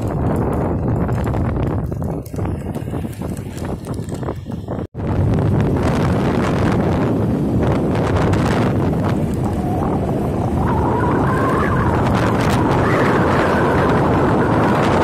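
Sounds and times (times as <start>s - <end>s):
motorcycle engine whine: 0.0s - 15.0s
wind buffeting microphone: 0.0s - 15.0s.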